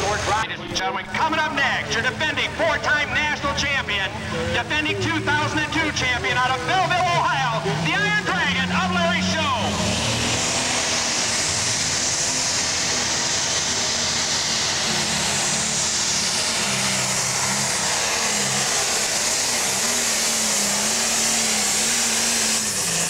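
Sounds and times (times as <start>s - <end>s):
tractor diesel engine at full load: 0.0s - 23.0s.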